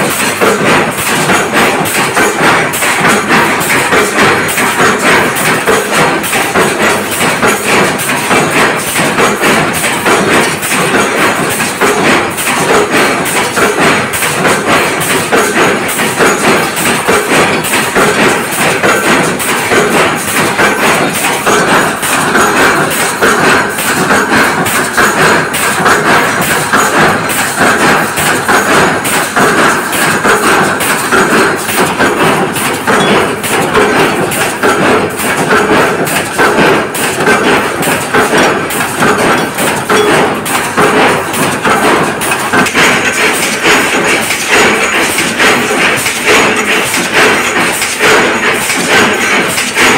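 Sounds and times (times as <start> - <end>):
metal press clatter and banging: 0.0 - 49.9.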